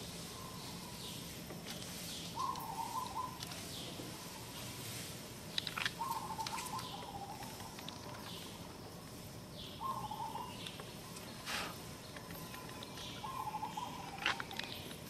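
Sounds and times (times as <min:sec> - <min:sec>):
bird chirping: 0:00.0 - 0:04.8, 0:05.5 - 0:15.0
outdoor ambience: 0:00.0 - 0:15.0.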